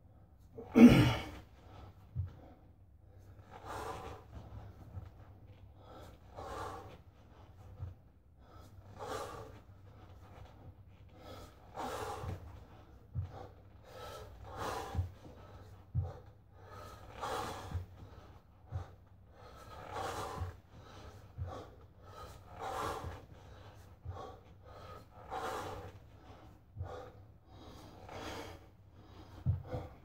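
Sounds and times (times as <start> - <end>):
man breathing hard: 0.6 - 5.1, 5.8 - 30.0.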